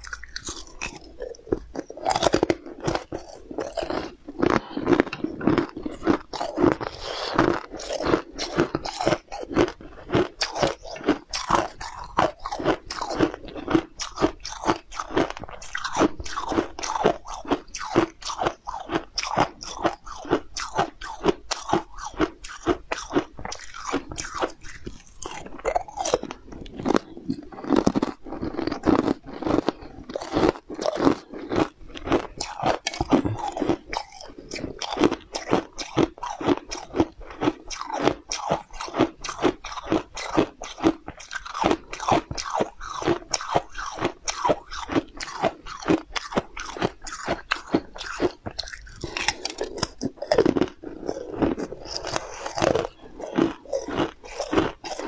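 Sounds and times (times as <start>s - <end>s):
crisp crunching and chewing: 0.0s - 55.0s.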